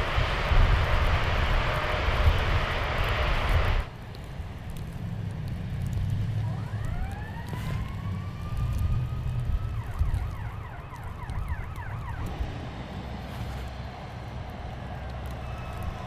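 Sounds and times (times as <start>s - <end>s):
emergency vehicle siren: 0.0s - 16.0s
slow-moving traffic rumble: 0.0s - 16.0s.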